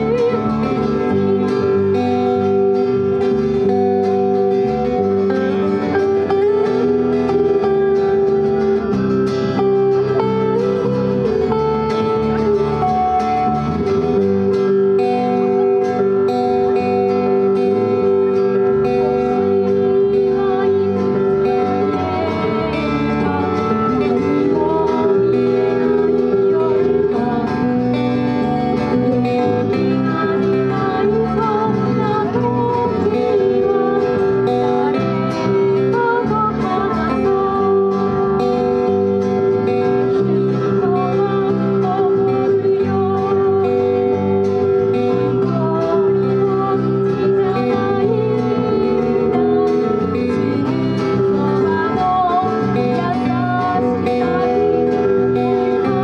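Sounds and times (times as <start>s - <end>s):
acoustic guitars strumming: 0.0s - 56.0s
electric bass: 0.0s - 56.0s
woman singing into microphone: 0.0s - 56.0s.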